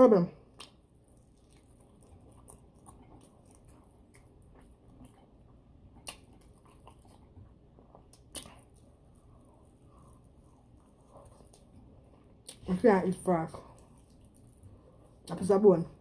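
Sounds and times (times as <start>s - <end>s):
chewing with wet mouth clicks: 0.5s - 15.4s.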